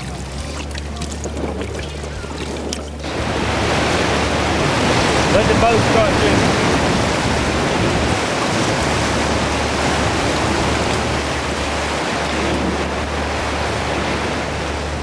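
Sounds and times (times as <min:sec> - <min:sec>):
low hum: 0:00.0 - 0:15.0
water rushing through dam gates: 0:00.0 - 0:15.0.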